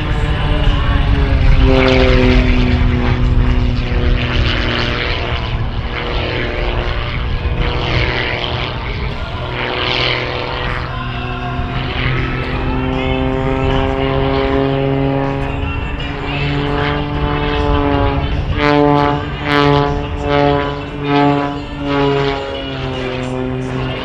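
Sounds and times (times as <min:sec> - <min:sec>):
propeller plane engine at full power: 0:00.0 - 0:24.0.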